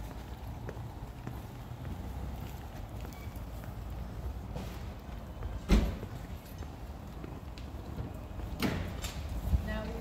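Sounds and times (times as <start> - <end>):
footsteps on stone paving: 0.0 - 10.0
low street rumble: 0.0 - 10.0.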